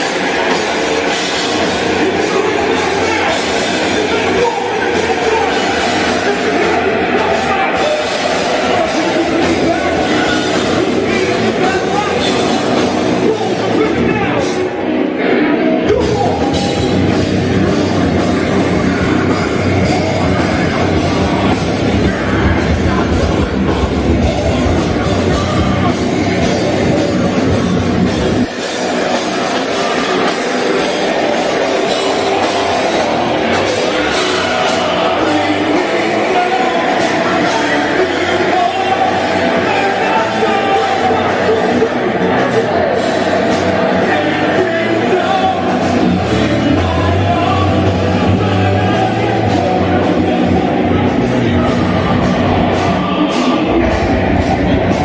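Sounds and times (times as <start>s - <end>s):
metal band playing: 0.0s - 55.0s.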